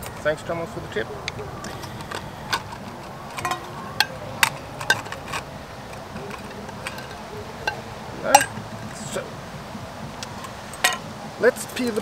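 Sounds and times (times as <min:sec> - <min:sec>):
metal pots clinking and knocking: 0:01.2 - 0:09.2, 0:10.1 - 0:12.0.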